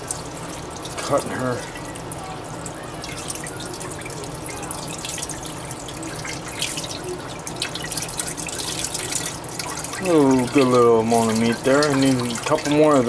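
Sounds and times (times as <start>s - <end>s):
tap water running: 0.0s - 13.0s
water splashing into pot: 0.0s - 13.0s.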